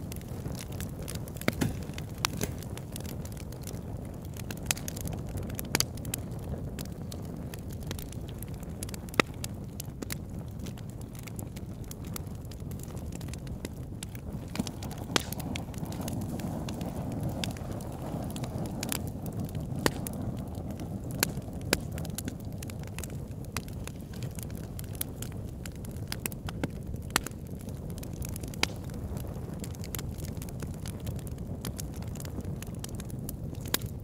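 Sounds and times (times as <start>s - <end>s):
fire crackling: 0.0s - 34.0s
sharp fire pops: 0.0s - 34.0s.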